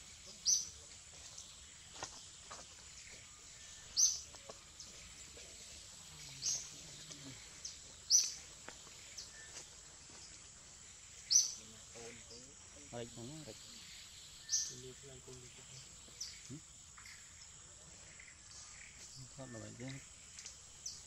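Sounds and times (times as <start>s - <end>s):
bird chirping: 0.0s - 21.0s
faint forest background hiss: 0.0s - 21.0s.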